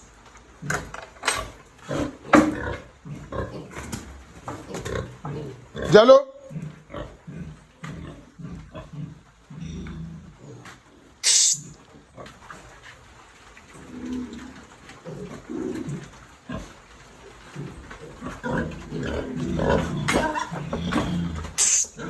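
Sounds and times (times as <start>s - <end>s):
pigs grunting and squealing: 0.0s - 22.0s.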